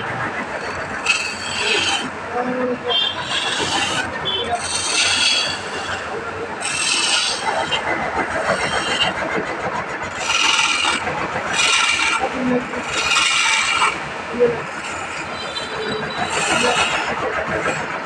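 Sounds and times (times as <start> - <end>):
chisel scraping on wood lathe: 0.0 - 18.0.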